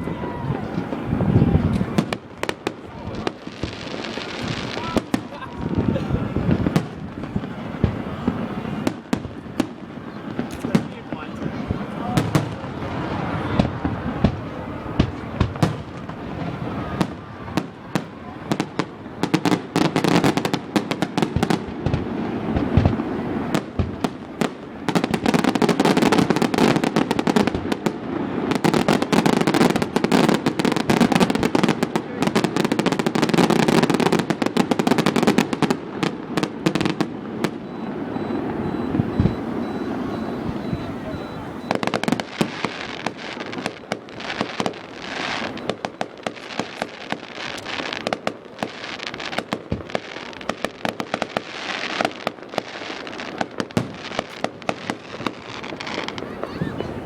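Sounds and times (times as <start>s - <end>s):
fireworks bangs and pops: 0.0s - 57.0s
fireworks crackling: 0.0s - 57.0s.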